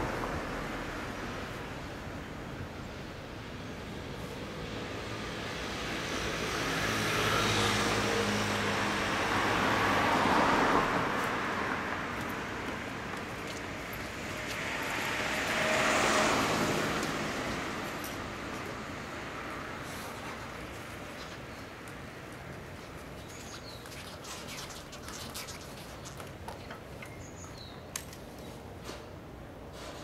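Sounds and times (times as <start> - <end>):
passing road traffic: 0.0 - 30.0.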